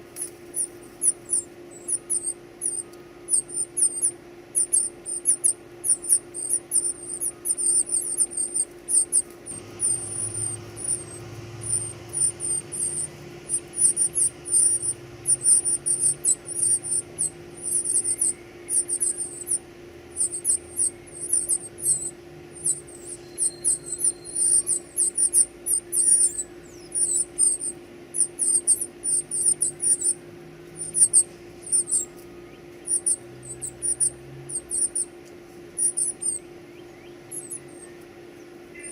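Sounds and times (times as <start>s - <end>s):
baby birds cheeping: 0.0s - 38.9s
steady low hum: 0.0s - 38.9s.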